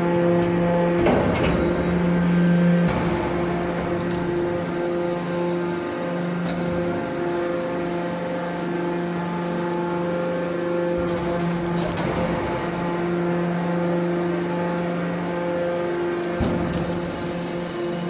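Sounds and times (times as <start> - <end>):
hydraulic power unit humming: 0.0 - 18.0.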